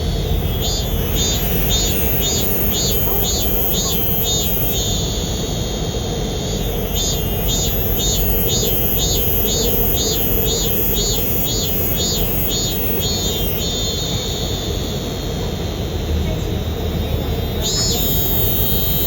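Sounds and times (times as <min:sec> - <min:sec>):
cicada-like buzzing: 0:00.0 - 0:19.0.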